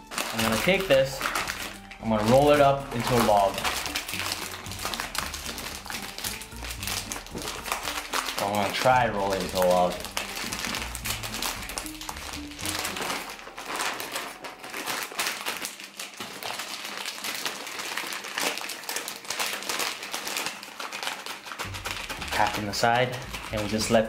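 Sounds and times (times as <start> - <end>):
background music: 0.0 - 24.0
chip bag and foil crinkling: 0.0 - 24.0.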